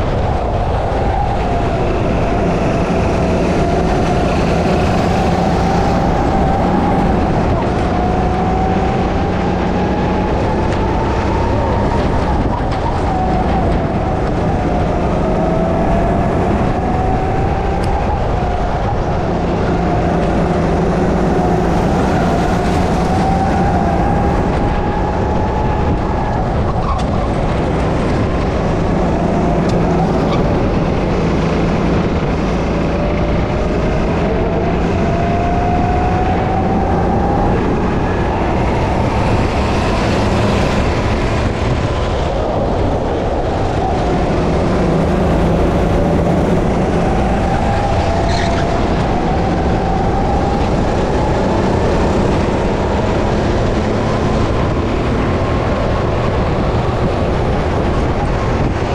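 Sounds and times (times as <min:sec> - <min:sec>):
go-kart engine revving: 0:00.0 - 0:58.9
steady rush of noise: 0:00.0 - 0:58.9.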